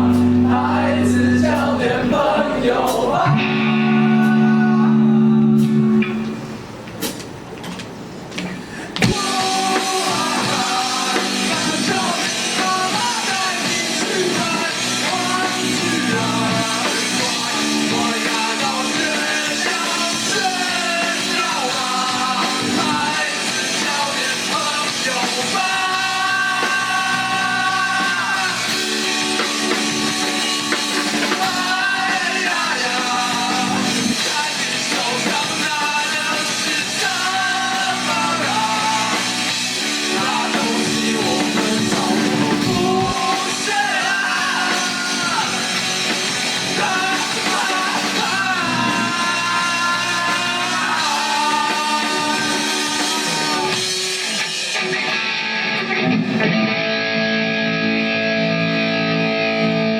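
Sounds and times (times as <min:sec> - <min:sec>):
person singing: 0:00.0 - 0:06.0, 0:09.0 - 0:29.9, 0:31.0 - 0:55.2
bass guitar: 0:00.0 - 0:07.1, 0:08.7 - 0:59.9
drum kit: 0:00.0 - 0:57.1
electric guitars: 0:00.0 - 0:59.9.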